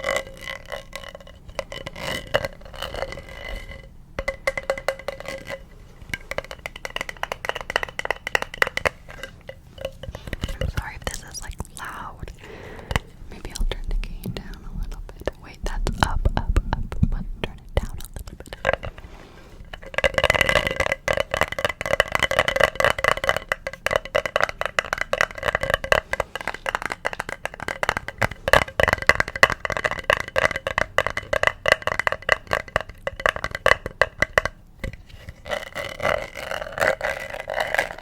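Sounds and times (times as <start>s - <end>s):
tapping and scratching on object: 0.0s - 11.9s, 12.9s - 38.0s.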